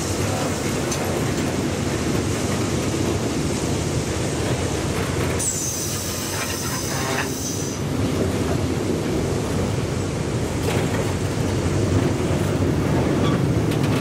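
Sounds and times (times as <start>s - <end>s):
train wagons rumbling: 0.0s - 14.0s.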